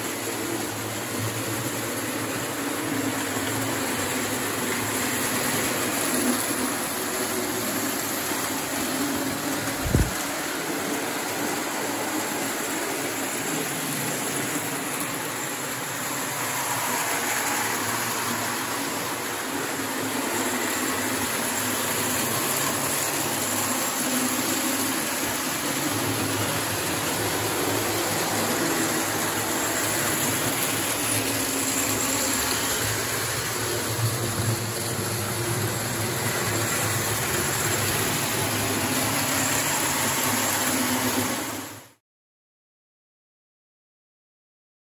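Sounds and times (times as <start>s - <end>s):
model trains rolling on track: 0.0s - 42.0s.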